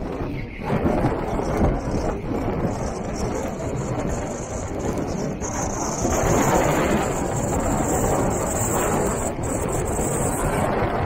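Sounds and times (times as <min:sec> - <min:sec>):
rain on windscreen: 0:00.0 - 0:11.0.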